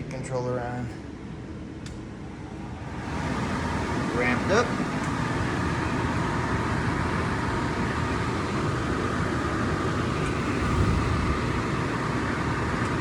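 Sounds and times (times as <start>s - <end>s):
faint motor hum: 0.0s - 13.0s
fan blowing air: 0.0s - 13.0s.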